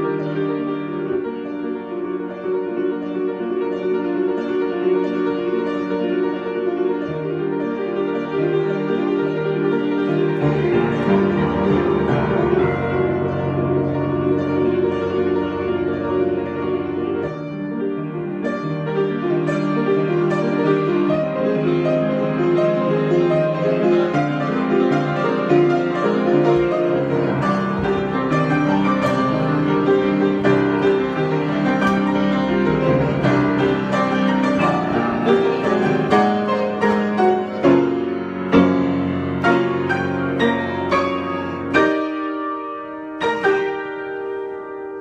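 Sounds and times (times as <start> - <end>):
solo piano playing: 0.0 - 45.0.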